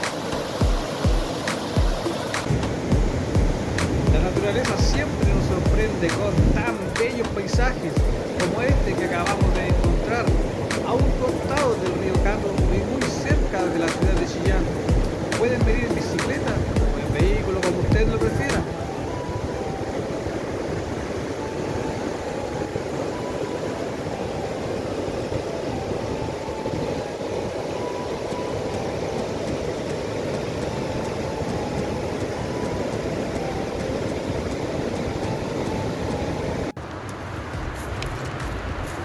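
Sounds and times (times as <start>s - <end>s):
river water rushing over rocks: 0.0s - 39.0s.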